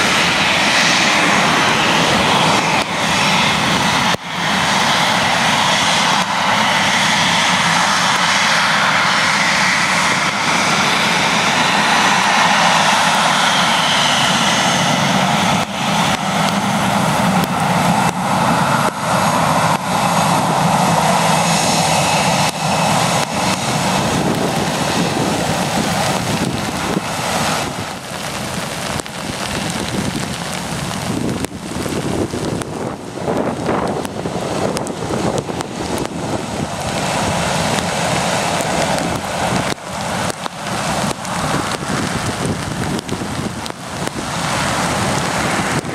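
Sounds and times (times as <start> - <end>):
jet airliner taking off: 0.0 - 45.9.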